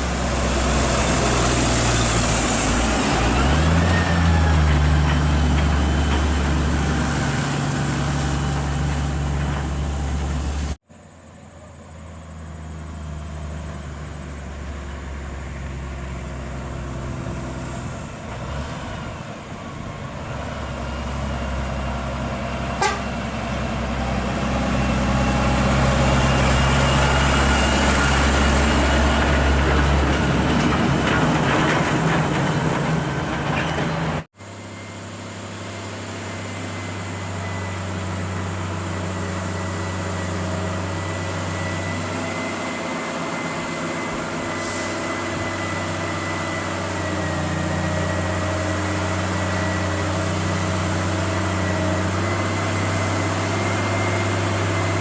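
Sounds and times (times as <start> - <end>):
truck approaching: 0.0 - 55.0
truck diesel engines running: 0.0 - 55.0.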